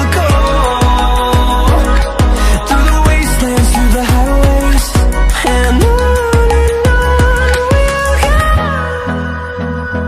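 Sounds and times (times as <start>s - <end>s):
pop music with drum beat: 0.0s - 10.0s.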